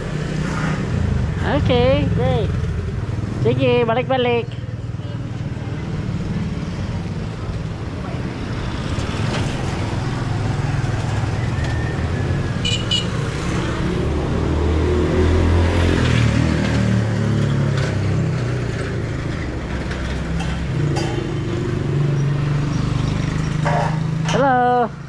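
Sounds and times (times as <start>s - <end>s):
vehicle engine passing: 0.0s - 24.4s.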